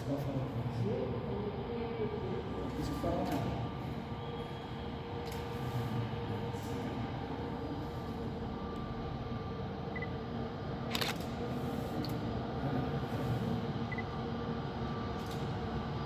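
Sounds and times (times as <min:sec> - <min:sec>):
jet airliner engine drone: 0:00.0 - 0:16.0.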